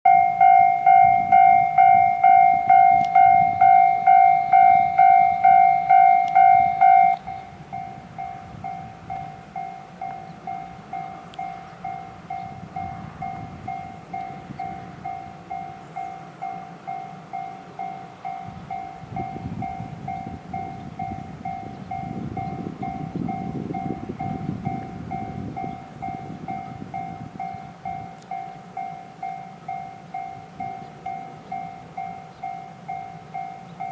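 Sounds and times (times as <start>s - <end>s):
level crossing warning bell: 0.0s - 33.9s
low train rumble: 0.1s - 33.9s.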